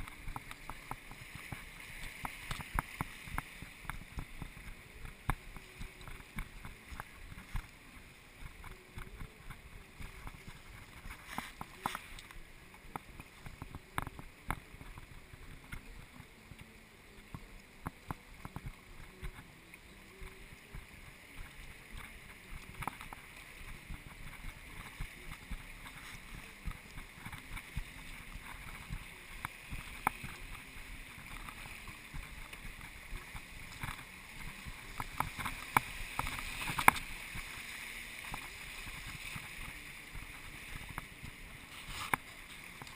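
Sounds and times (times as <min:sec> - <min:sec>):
river water rushing and splashing: 0:00.0 - 0:42.9.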